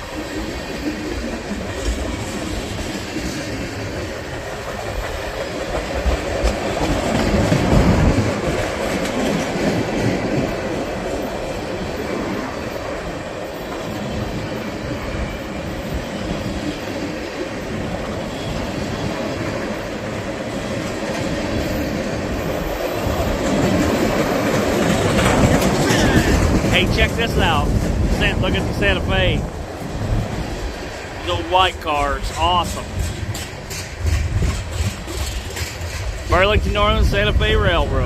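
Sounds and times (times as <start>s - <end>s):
freight train cars rolling past: 0.0s - 38.0s.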